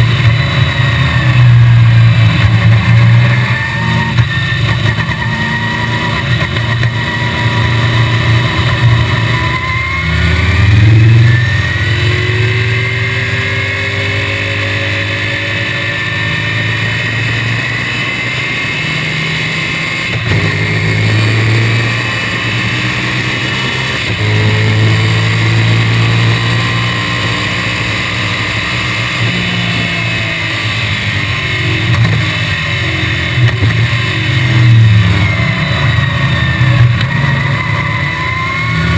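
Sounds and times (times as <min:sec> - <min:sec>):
car engine revving hard: 0:00.0 - 0:38.9.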